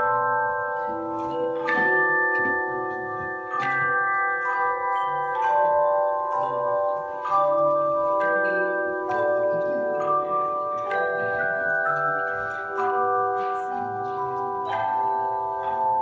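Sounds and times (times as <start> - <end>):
handbell choir playing: 0.0 - 16.0.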